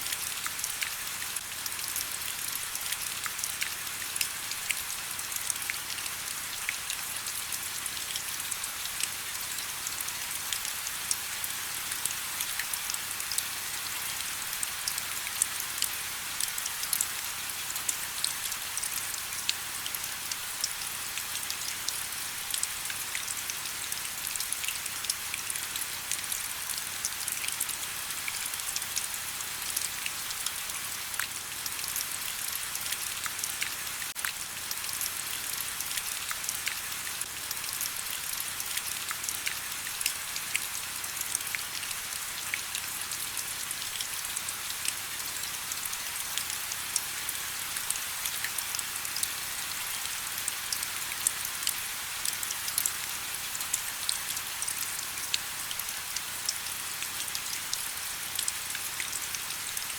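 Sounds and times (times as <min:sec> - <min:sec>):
raindrops ticking on surfaces: 0:00.1 - 0:59.9.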